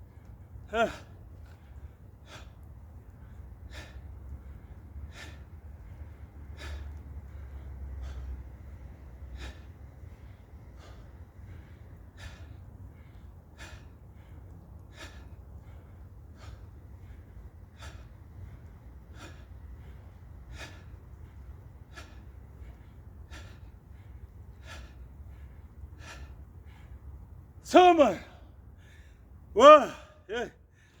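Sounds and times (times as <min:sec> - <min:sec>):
man breathing hard: 0:00.0 - 0:31.0
steady low hum: 0:00.0 - 0:31.0.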